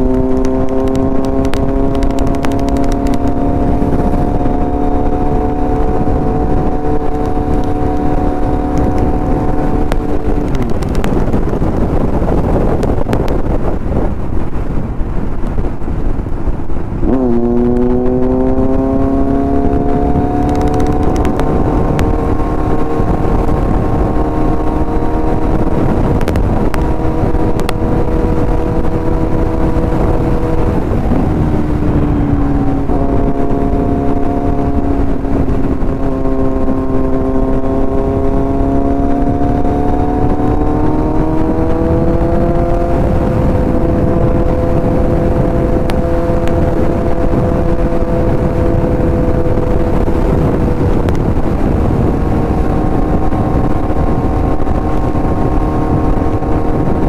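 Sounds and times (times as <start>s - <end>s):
heavy wind rush: 0.0s - 57.0s
motorcycle engine running: 0.0s - 57.0s.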